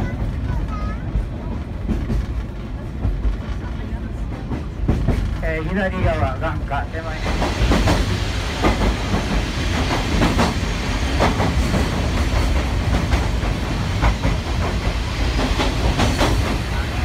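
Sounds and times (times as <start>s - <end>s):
irregular rail clacks: 0.0s - 17.0s
train wheels rumbling on rail: 0.0s - 17.0s.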